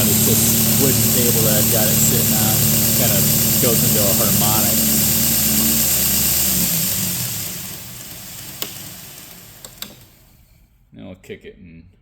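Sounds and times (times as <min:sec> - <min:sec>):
belt grinder running and spinning down: 0:00.0 - 0:10.4.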